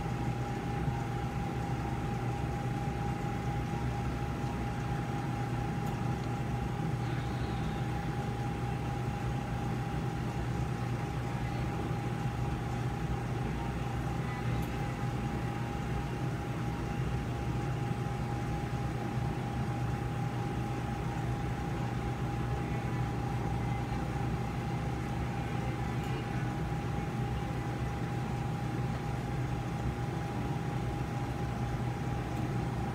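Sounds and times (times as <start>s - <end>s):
constant mid-pitched tone: 0.0s - 32.9s
equipment low hum: 0.0s - 32.9s.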